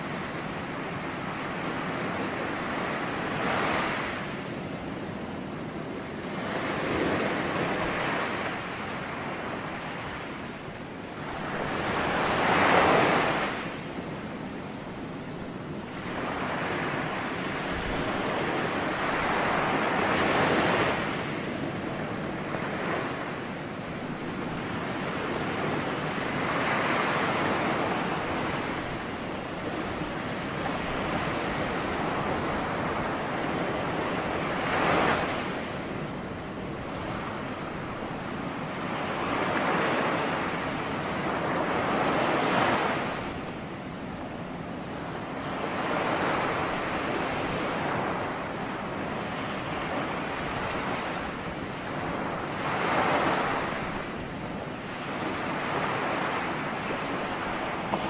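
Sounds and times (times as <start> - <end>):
ocean waves breaking: 5.8 - 58.0.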